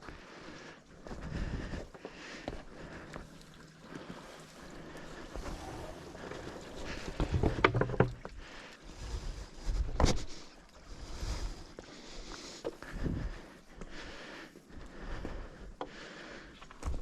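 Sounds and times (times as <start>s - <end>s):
footsteps on muddy trail: 0.0s - 17.0s.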